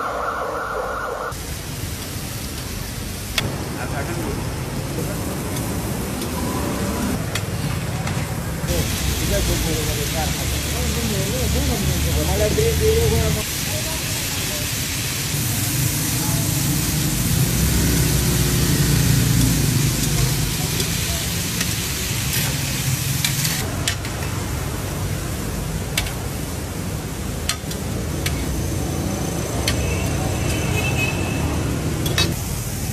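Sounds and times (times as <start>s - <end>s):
liver sizzling on griddle: 1.3s - 7.9s, 8.6s - 32.9s.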